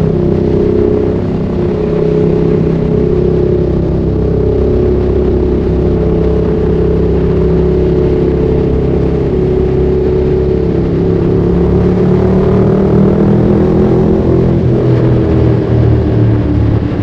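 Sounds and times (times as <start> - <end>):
motorcycle engine at steady revs: 0.0 - 17.0.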